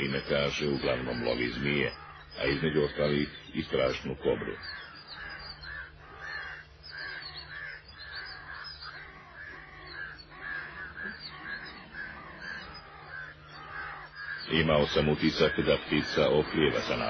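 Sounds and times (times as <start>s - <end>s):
birds calling short repeated notes: 0.0s - 17.0s
low steady hum: 0.0s - 17.0s.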